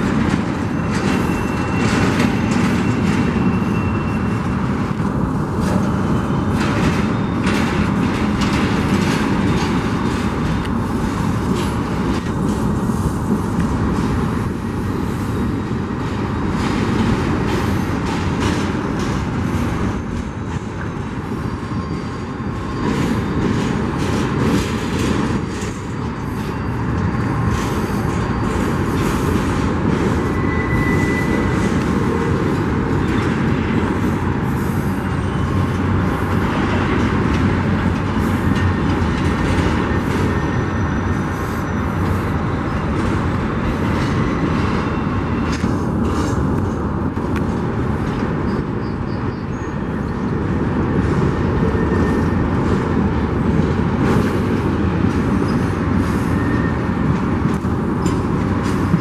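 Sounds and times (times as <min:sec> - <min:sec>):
freight cars rattling and clanking: 0:00.0 - 0:59.0
train wheels rumbling on rail: 0:00.0 - 0:59.0.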